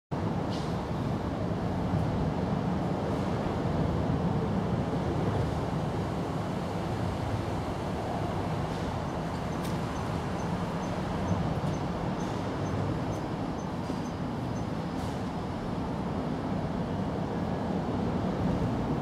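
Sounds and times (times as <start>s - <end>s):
low rumble like distant traffic: 0.1s - 19.0s.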